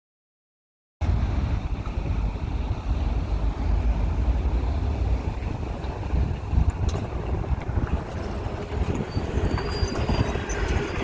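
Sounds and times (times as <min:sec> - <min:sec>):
bus engine low rumble: 0:01.0 - 0:11.0
road and cabin noise: 0:01.0 - 0:11.0.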